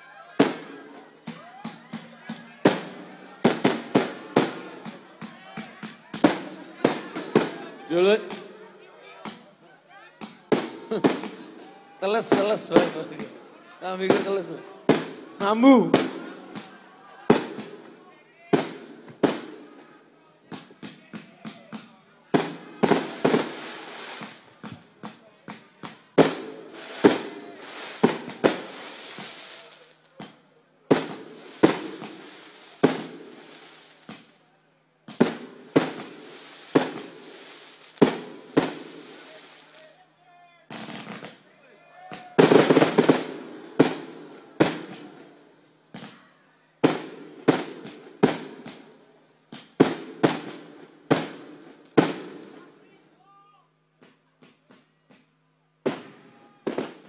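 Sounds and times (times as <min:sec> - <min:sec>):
fireworks bursting: 0:00.4 - 0:08.6, 0:10.2 - 0:19.8, 0:20.6 - 0:34.4, 0:35.1 - 0:39.9, 0:40.7 - 0:41.4, 0:42.2 - 0:45.4, 0:46.8 - 0:52.6, 0:55.8 - 0:57.0.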